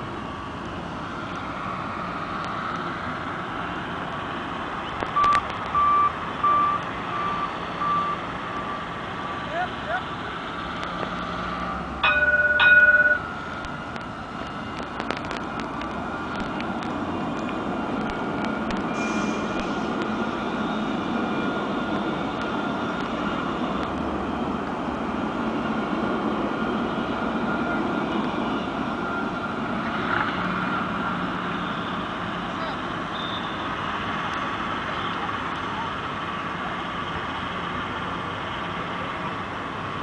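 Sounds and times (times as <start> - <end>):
tram rumbling on rails: 0.0 - 40.0.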